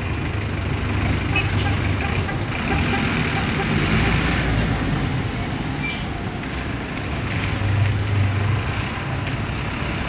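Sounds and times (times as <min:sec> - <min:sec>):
bus engine running: 0:00.0 - 0:10.0
street traffic: 0:00.0 - 0:10.0.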